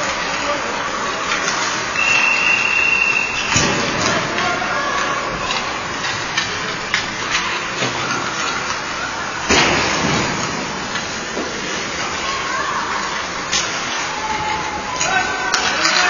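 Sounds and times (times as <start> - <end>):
hockey sticks and pucks clacking: 0.0 - 16.0.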